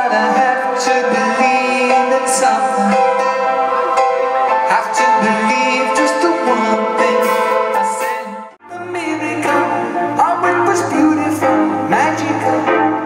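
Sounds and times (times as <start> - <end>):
live band with keyboard and guitar: 0.0 - 13.0.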